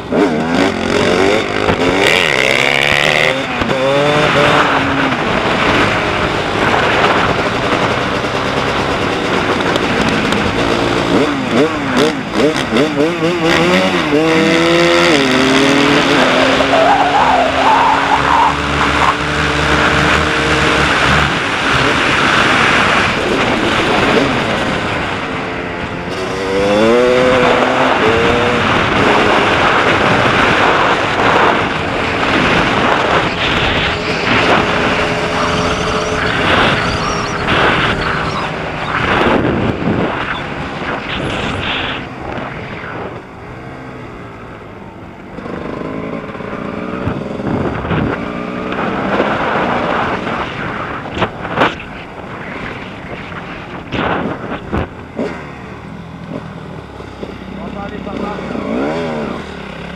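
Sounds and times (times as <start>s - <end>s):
dirt bike engine revving: 0.0s - 44.7s, 45.3s - 59.9s.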